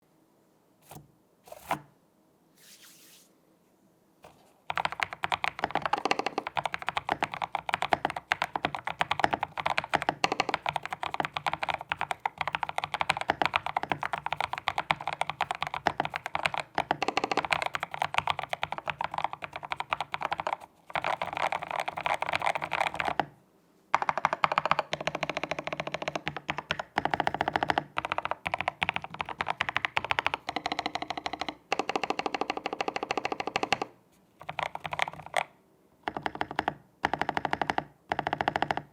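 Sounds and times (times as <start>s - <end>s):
mechanical keyboard typing: 4.2s - 23.3s, 23.9s - 38.9s.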